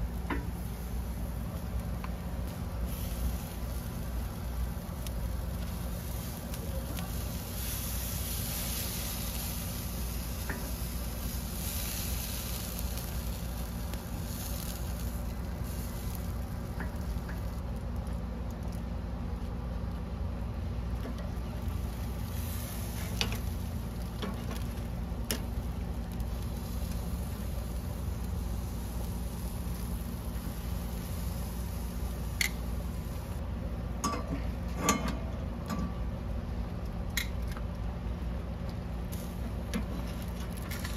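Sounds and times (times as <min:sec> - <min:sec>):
food sizzling on grill: 0:00.0 - 0:18.7, 0:20.2 - 0:33.4, 0:39.0 - 0:40.9
steady low rumble: 0:00.0 - 0:40.9.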